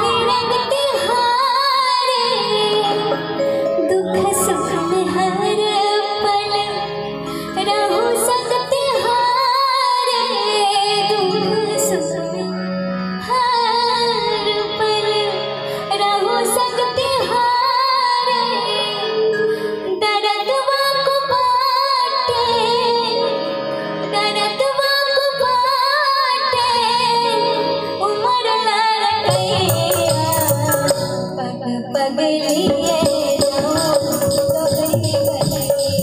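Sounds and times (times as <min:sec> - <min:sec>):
woman singing folk song: 0:00.0 - 0:12.5, 0:13.2 - 0:23.5, 0:24.1 - 0:35.8.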